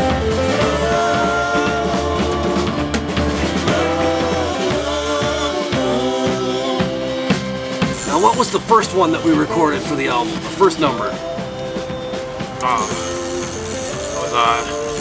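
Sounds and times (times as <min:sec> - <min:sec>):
man singing: 0:00.0 - 0:15.0
rock band playing: 0:00.0 - 0:15.0.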